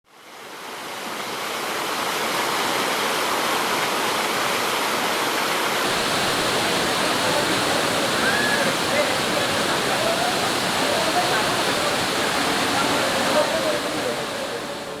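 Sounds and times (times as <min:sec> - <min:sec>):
waterfall rushing: 0:01.1 - 0:15.0.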